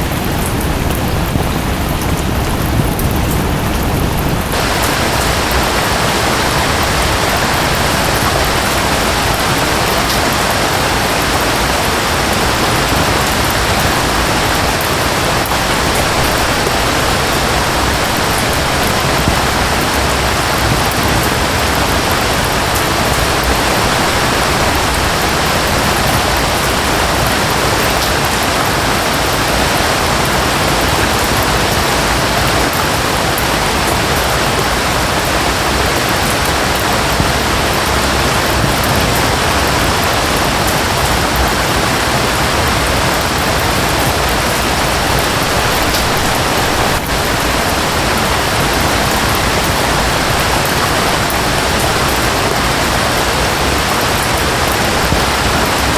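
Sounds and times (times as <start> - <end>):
falling rain: 0.0 - 55.9
waterfall rushing: 0.0 - 55.9.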